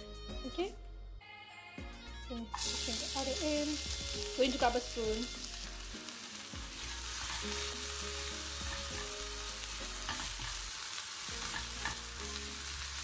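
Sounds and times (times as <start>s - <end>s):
onions sizzling in oil: 2.5s - 13.0s.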